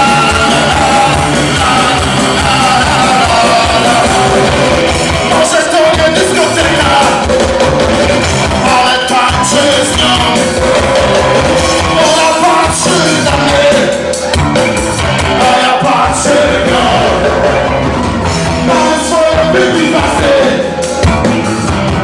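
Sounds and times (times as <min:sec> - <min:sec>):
person singing: 0:00.0 - 0:07.3, 0:08.6 - 0:14.4, 0:15.2 - 0:21.4
live rock band playing: 0:00.0 - 0:22.0.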